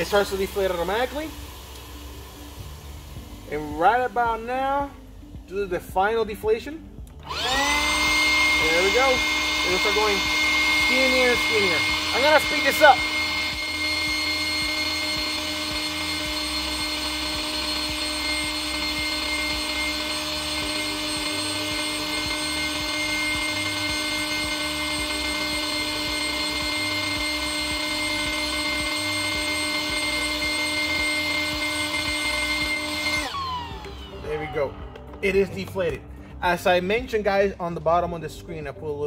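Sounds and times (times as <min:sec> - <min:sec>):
electric air pump humming: 0:00.0 - 0:36.7.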